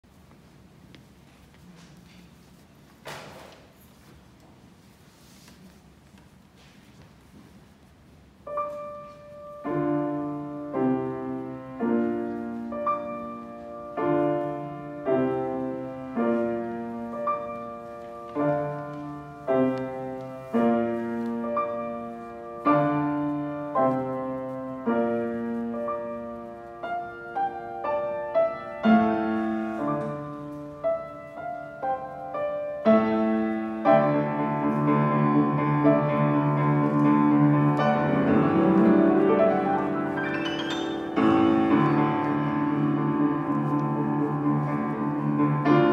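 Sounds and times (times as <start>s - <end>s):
grand piano chords: 8.1s - 45.9s.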